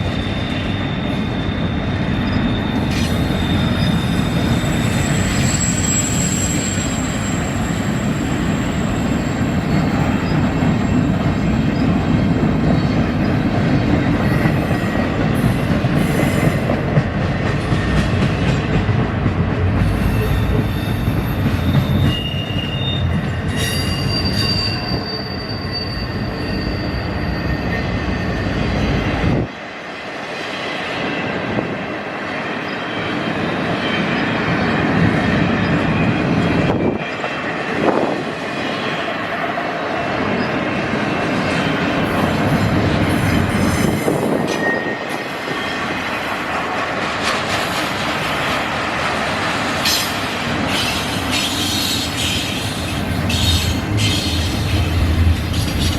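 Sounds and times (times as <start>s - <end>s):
railroad wheels clattering and squealing: 0.0s - 55.9s.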